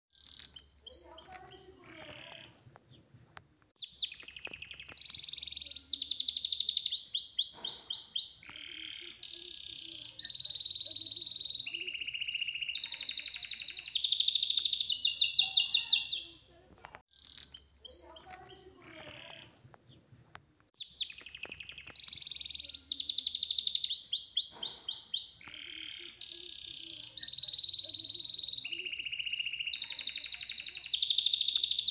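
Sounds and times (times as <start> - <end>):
songbird singing rapid trills: 0.2 - 3.0, 3.8 - 16.4, 17.1 - 20.0, 20.8 - 31.9.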